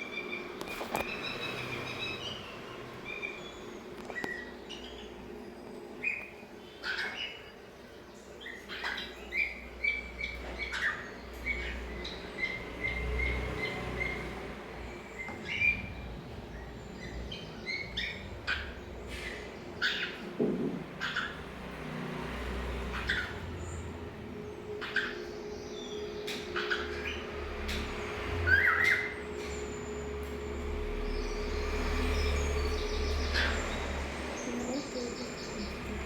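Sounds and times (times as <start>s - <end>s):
cockatiels chirping: 0.1s - 5.2s, 6.0s - 14.4s, 15.2s - 20.3s, 21.0s - 21.6s, 22.9s - 36.0s.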